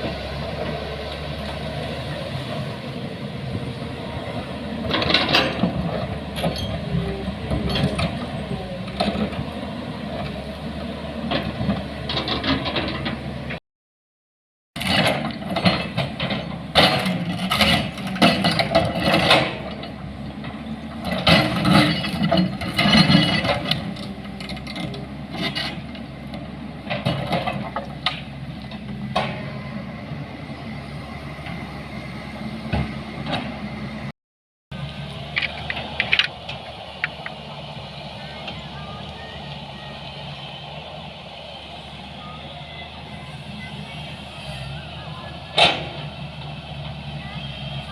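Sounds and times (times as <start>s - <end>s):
vehicle engine rattling and clanking: 0.0s - 13.6s, 14.8s - 34.1s, 34.7s - 47.9s.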